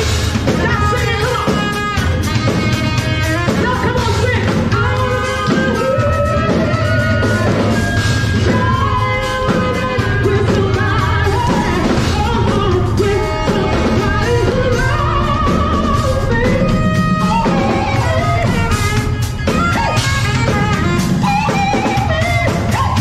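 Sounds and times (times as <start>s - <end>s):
drum kit beat: 0.0s - 23.0s
live band playing: 0.0s - 23.0s
person singing into microphone: 0.0s - 23.0s.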